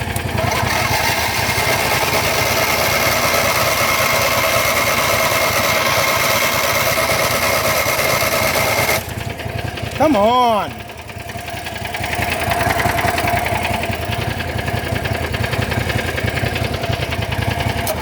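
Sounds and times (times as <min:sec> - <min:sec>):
starter motor cranking: 0:00.0 - 0:09.8, 0:11.0 - 0:18.0
engine idling: 0:00.0 - 0:18.0.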